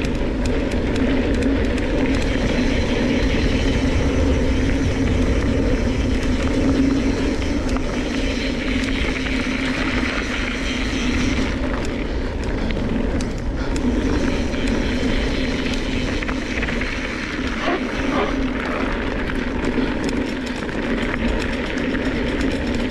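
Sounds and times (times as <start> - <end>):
bike clicks and rattles: 0.0 - 22.9
tyre and wind noise: 0.0 - 22.9.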